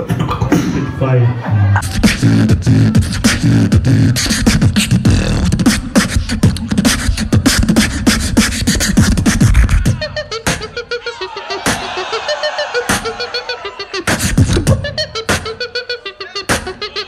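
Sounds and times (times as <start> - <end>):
person beatboxing into microphone: 1.8 - 11.9, 12.9 - 17.0.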